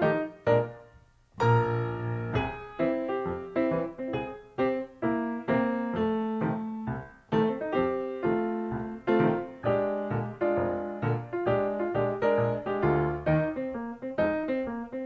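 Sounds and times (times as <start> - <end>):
ragtime solo piano: 0.0 - 0.8, 1.4 - 15.0.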